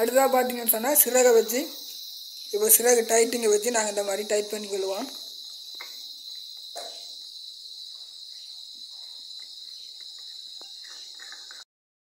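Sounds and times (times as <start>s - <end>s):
high-pitched insect trill: 0.0s - 11.7s.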